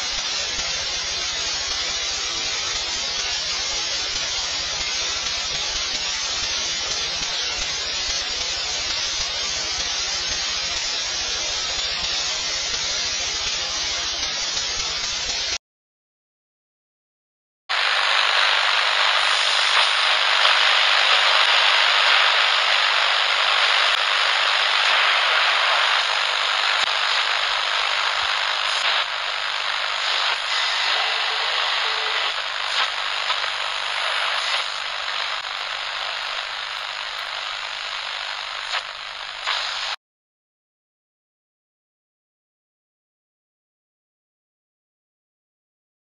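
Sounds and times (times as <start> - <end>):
electronic static hiss: 0.0 - 15.6, 17.7 - 40.0.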